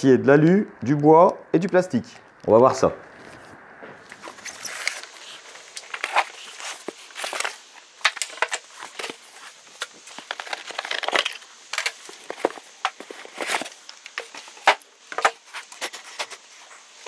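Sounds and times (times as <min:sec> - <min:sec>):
packaging rustling and crinkling: 0:03.2 - 0:17.0.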